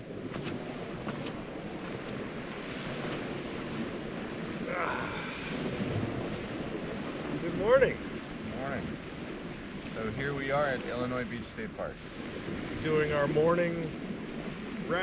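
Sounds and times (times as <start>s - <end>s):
waves washing on pebbly beach: 0.0s - 15.0s
wind buffeting microphone: 0.0s - 15.0s.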